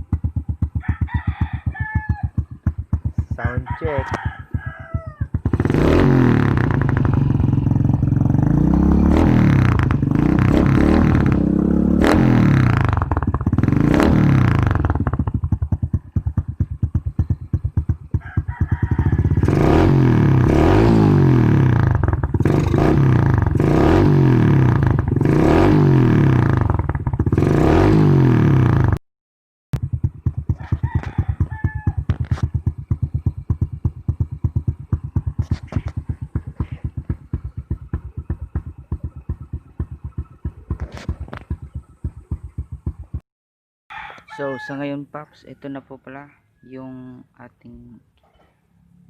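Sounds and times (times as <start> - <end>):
motorcycle engine revving: 0.0 - 29.0, 29.8 - 43.2.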